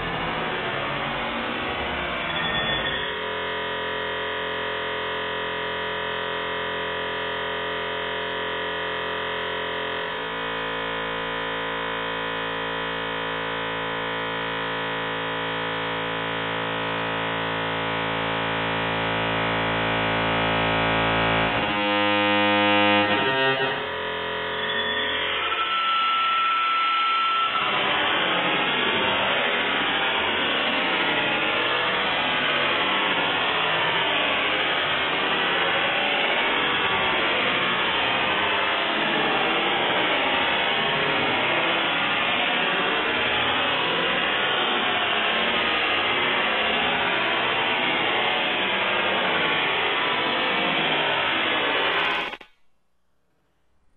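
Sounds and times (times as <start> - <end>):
slowed modem drone: 0.0 - 52.5.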